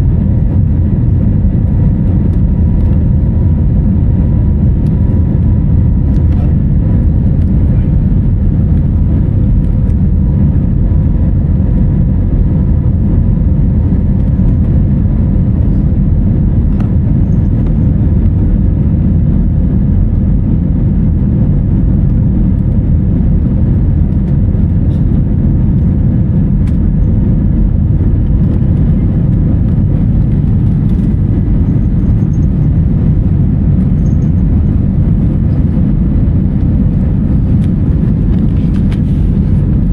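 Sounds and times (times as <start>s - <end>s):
faint steady hum: 0.0s - 39.9s
jet engine rumble: 0.0s - 39.9s.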